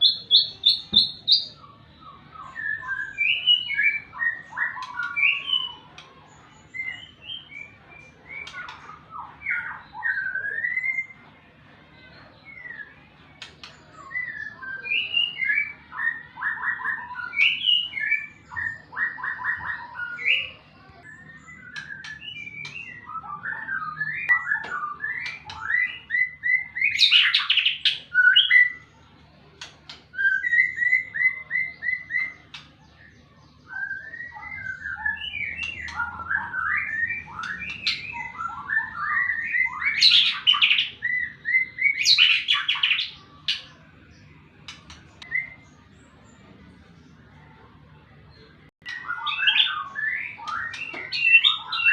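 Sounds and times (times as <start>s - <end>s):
bird singing whistles and trills: 0.0s - 11.3s, 12.0s - 28.8s, 30.1s - 43.8s, 45.2s - 45.8s, 48.8s - 51.9s.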